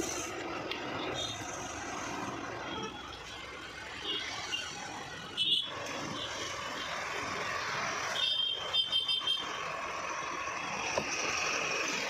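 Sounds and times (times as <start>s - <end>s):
roadside traffic: 0.0s - 12.0s.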